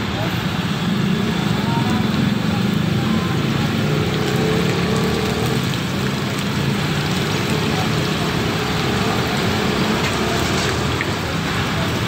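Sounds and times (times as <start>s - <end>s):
food sizzling in hot oil: 0.9s - 12.0s.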